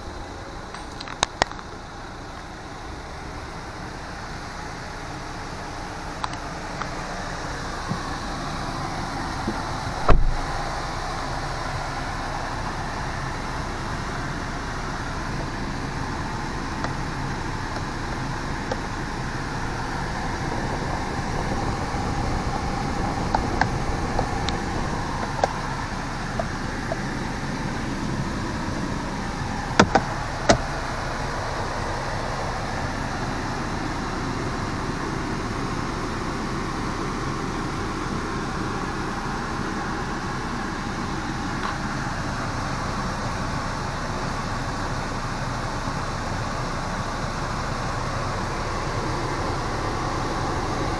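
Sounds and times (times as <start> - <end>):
steady background noise: 0.0 - 50.9.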